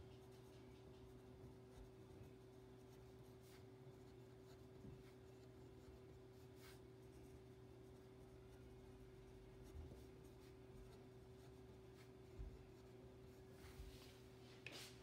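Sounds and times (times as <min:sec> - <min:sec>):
pen strokes on paper: 0:00.0 - 0:14.8
faint steady hum: 0:00.0 - 0:15.0.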